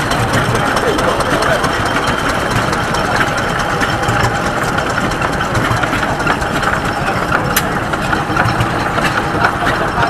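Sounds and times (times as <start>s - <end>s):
wood planer running: 0.0s - 10.0s.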